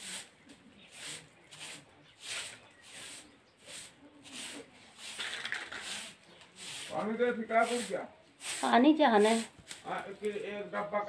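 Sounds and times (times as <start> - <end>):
broom sweeping cement floor: 0.0 - 10.6.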